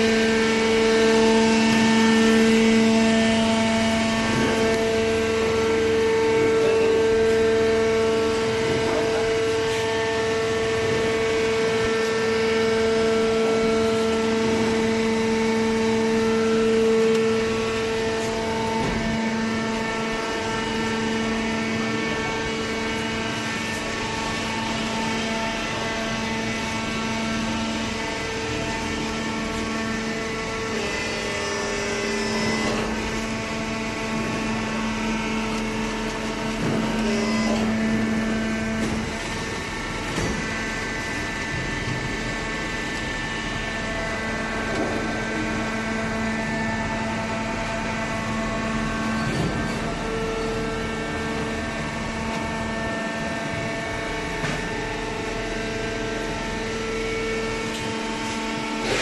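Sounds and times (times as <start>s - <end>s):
hydraulic motor and pump hum: 0.0s - 59.0s.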